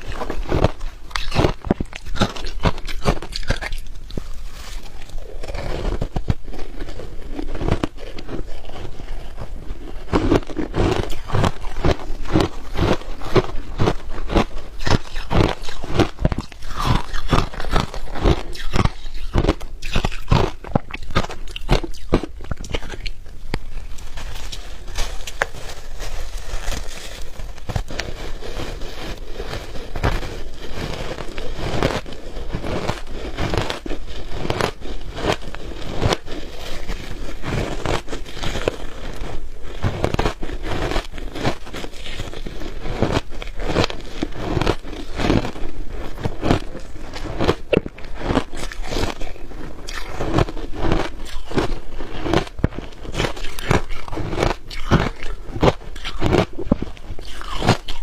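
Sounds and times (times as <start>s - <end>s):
ice being chewed: 0.0s - 58.0s.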